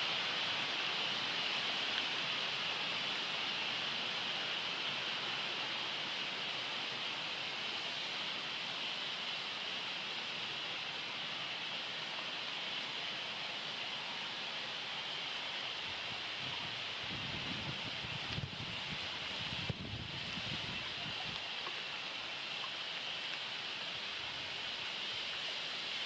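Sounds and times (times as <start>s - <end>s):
rain hiss: 0.0s - 26.0s
storm wind in trees: 0.0s - 26.0s.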